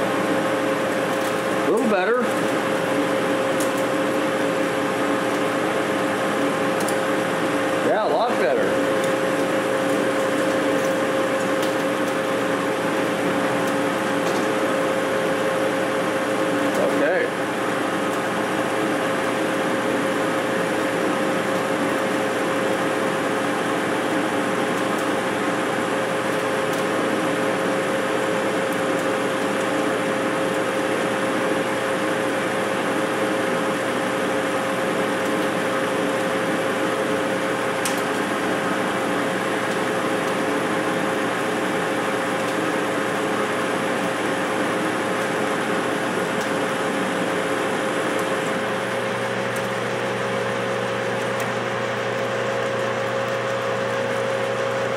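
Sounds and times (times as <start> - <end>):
lathe whine: 0.0 - 54.9
metal lathe droning: 0.0 - 54.9.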